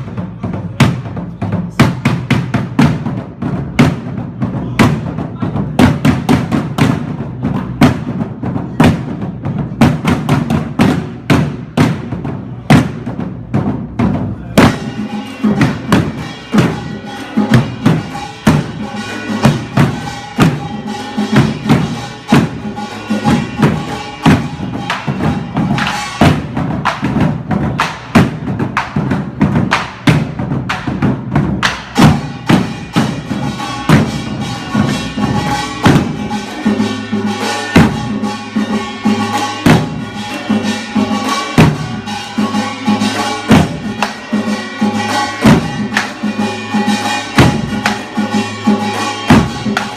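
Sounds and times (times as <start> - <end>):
barrel drums beaten fast: 0.0 - 49.9.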